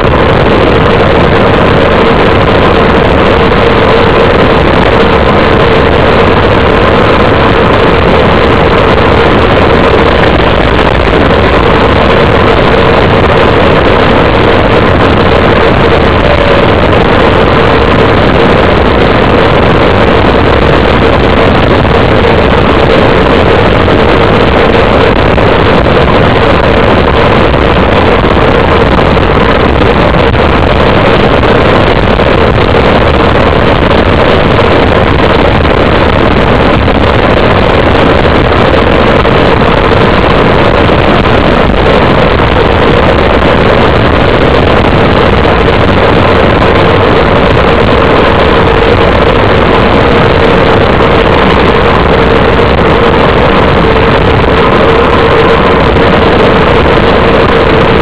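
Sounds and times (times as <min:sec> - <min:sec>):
faint steady hum: 0:00.0 - 0:58.0
wind rushing over microphone: 0:00.0 - 0:58.0.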